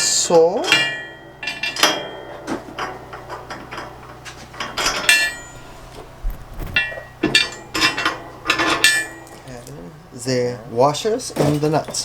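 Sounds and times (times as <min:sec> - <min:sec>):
bolts clinking against metal bracket: 0:00.0 - 0:06.2, 0:06.8 - 0:09.8, 0:11.0 - 0:12.0.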